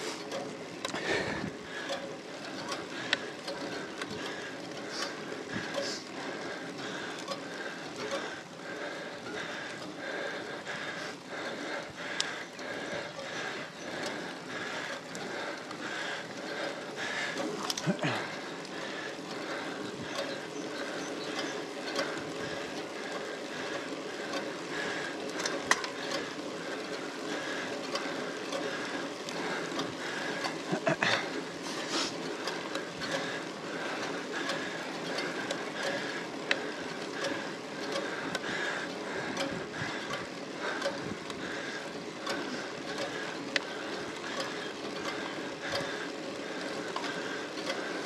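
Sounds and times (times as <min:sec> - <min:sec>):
bicycle chain whirring and rattling: 0:00.0 - 0:48.0.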